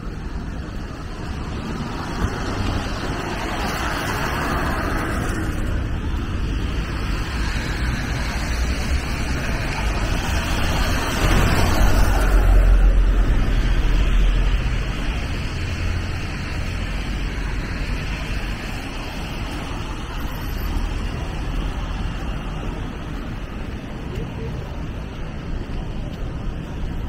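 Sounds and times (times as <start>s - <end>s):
tyres hissing on wet road: 0.2s - 26.0s.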